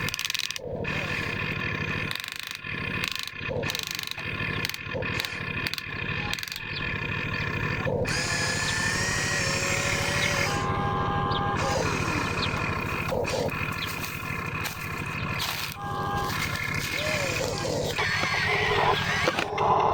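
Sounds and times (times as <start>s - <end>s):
model machine motors whining: 0.0s - 19.9s.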